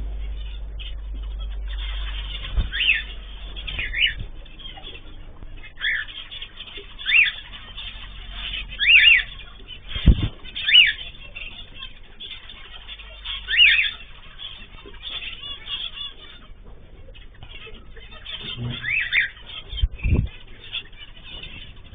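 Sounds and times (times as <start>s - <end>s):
cage birds chirping: 0.0s - 21.9s.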